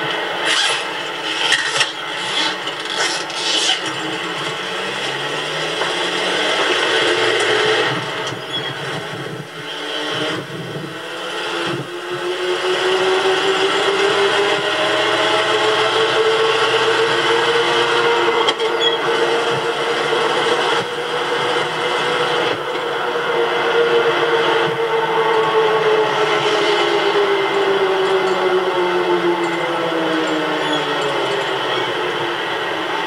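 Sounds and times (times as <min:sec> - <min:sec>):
car engine driving: 0:00.0 - 0:33.0
road noise inside vehicle: 0:00.0 - 0:33.0.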